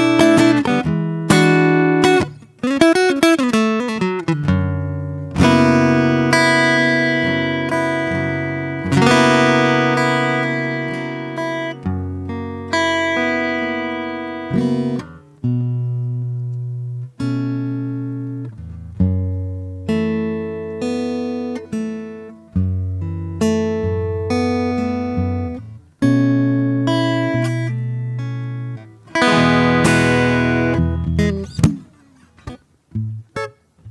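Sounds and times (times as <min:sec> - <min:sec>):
solo acoustic guitar: 0:00.0 - 0:33.9.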